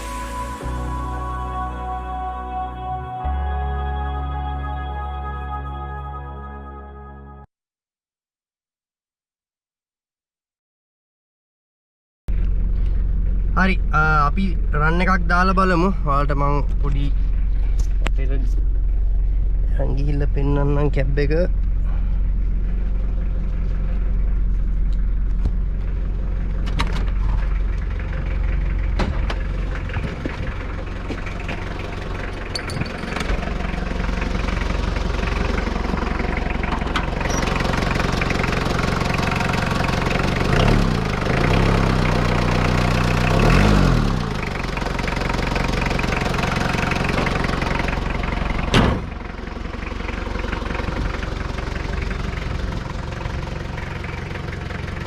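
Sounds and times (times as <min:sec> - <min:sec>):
diesel engine running and revving: 0:00.0 - 0:07.5, 0:12.3 - 0:55.0.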